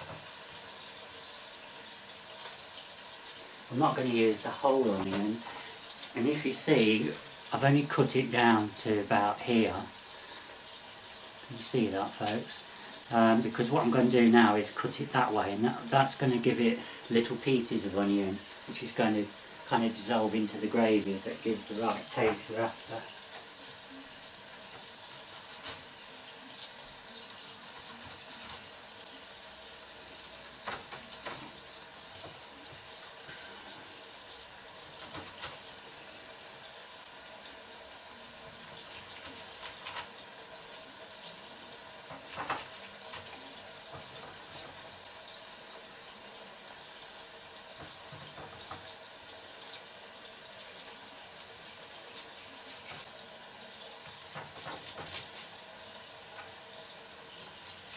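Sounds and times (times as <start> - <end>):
meat sizzling in a pot: 0.0 - 57.9.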